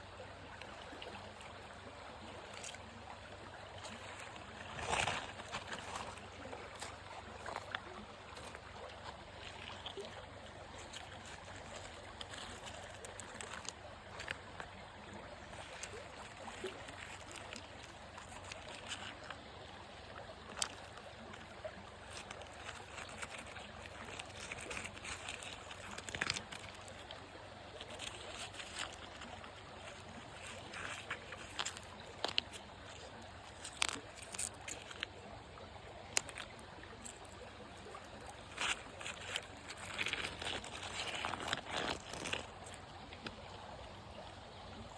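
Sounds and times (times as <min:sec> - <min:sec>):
water running and trickling: 0:00.0 - 0:44.9.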